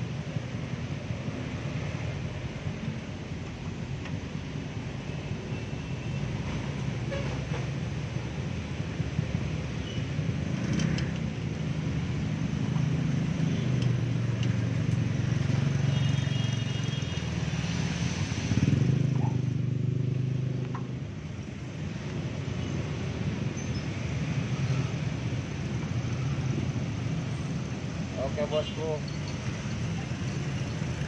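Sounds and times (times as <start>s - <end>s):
motor traffic engine rumble: 0.0s - 31.0s.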